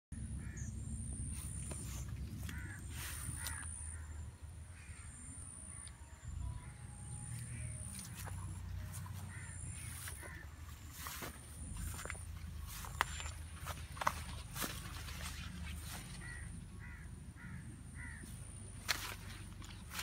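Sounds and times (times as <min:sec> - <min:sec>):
steady low rumble: 0:00.1 - 0:20.0
birds calling: 0:00.2 - 0:20.0.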